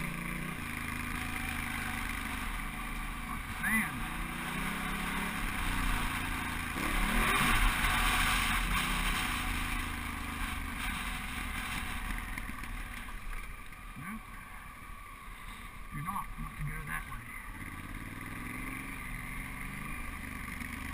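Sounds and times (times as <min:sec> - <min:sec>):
motorcycle engine revving: 0:00.0 - 0:15.2, 0:15.8 - 0:20.9.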